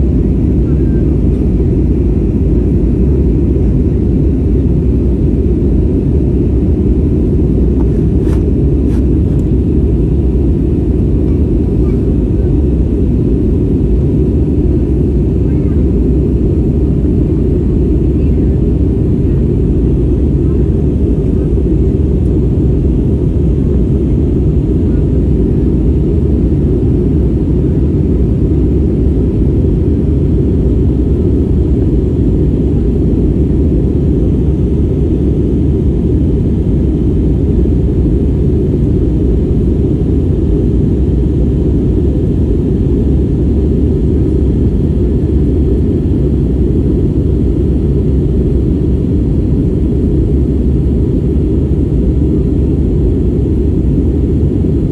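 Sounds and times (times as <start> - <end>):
airplane cabin rumble: 0.0 - 54.9.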